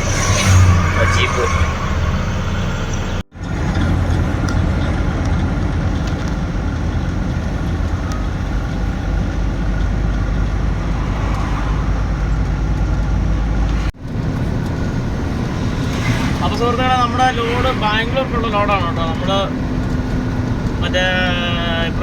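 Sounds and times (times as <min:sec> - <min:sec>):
road noise: 0:00.0 - 0:22.0
truck engine rumble: 0:00.0 - 0:22.0.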